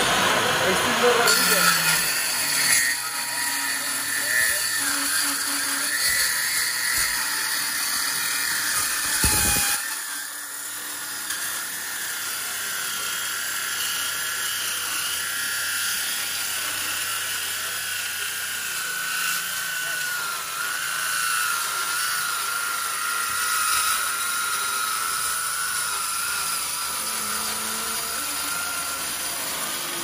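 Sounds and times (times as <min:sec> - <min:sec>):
circular saw cutting metal: 0:00.0 - 0:30.0.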